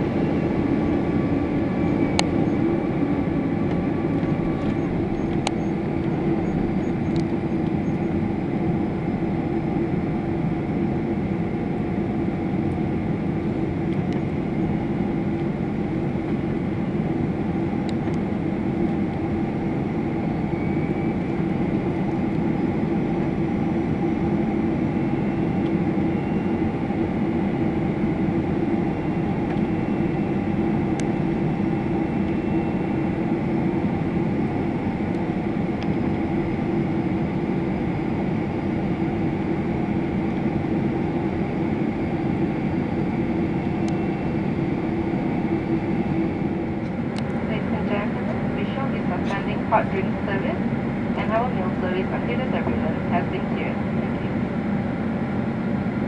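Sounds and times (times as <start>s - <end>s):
constant low hum: 0.0s - 56.0s
jet engine drone and airflow: 0.0s - 56.0s.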